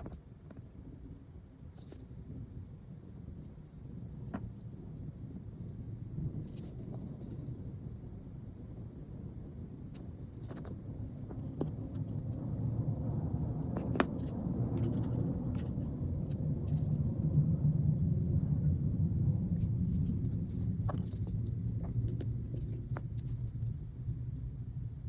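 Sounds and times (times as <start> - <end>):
low rumble: 4.0 - 25.0.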